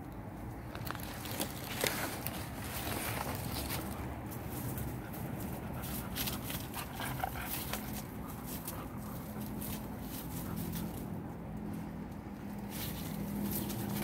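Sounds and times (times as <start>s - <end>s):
rustling and crackling leaves: 0.0s - 14.0s.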